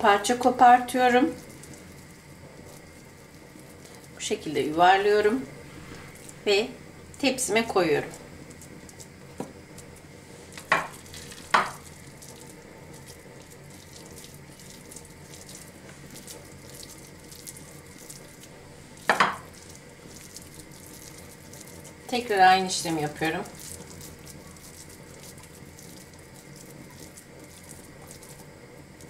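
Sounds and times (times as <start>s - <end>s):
wet squishing of minced meat: 0.9s - 4.6s, 5.6s - 29.0s.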